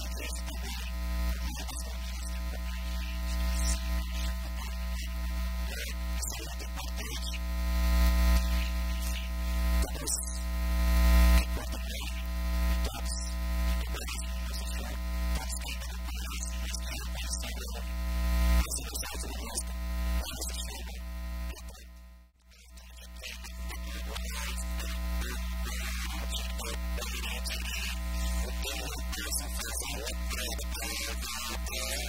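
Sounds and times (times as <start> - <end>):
loud electrical hum: 0.0 - 32.0.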